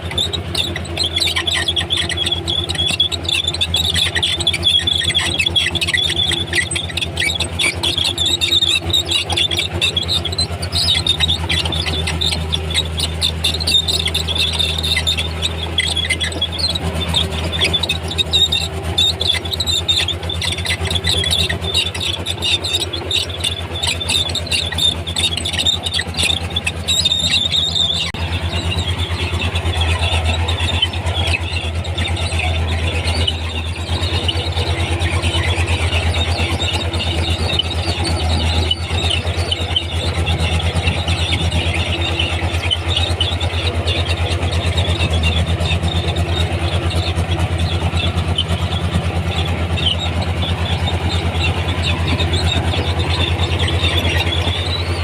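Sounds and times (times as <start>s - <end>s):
bulldozer diesel engine throbbing: 0.0s - 55.0s
steel tracks squeaking and clattering: 0.0s - 55.0s.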